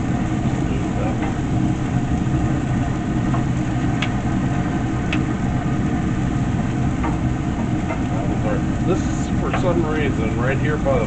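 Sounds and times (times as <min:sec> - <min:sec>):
constant hum: 0:00.0 - 0:11.0
low mechanical rumble: 0:00.0 - 0:11.0.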